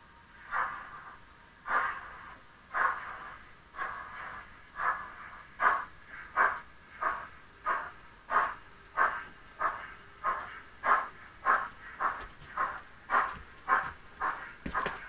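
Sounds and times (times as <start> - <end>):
model steam locomotive chuffing: 0.5 - 15.0.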